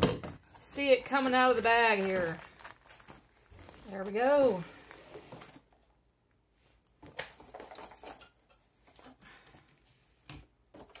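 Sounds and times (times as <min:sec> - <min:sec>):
cardboard and plastic rustling: 0:00.0 - 0:05.9, 0:06.8 - 0:11.0.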